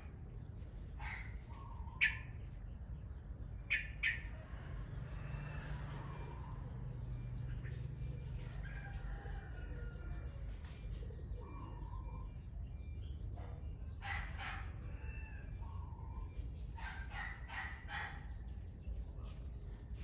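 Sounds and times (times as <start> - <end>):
birds calling harshly: 0.0 - 8.2, 11.2 - 20.0.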